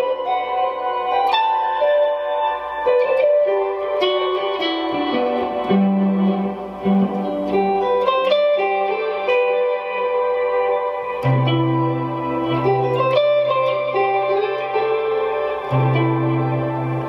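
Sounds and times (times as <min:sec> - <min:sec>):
clean electric guitar notes: 0:00.0 - 0:17.0.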